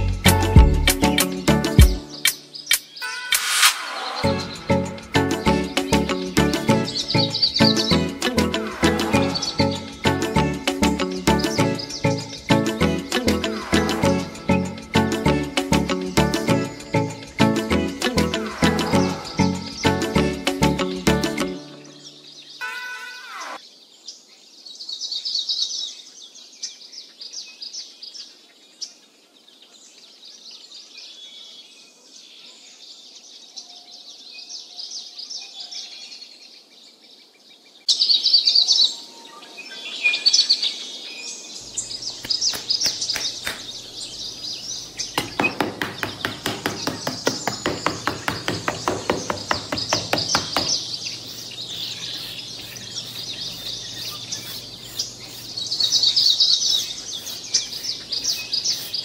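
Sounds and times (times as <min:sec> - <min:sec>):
birds chirping: 0:00.0 - 0:29.1, 0:33.2 - 0:59.0.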